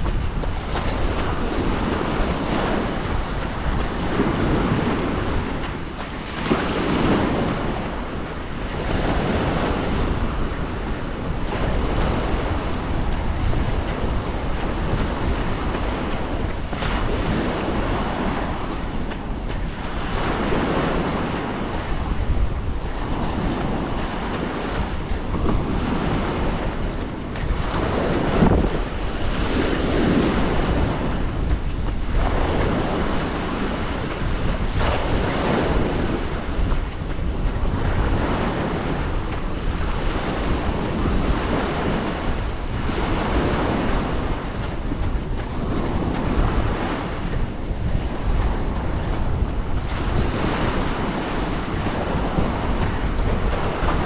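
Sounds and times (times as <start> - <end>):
small waves breaking on shore: 0.0 - 54.0
wind rumbling on microphone: 0.0 - 54.0.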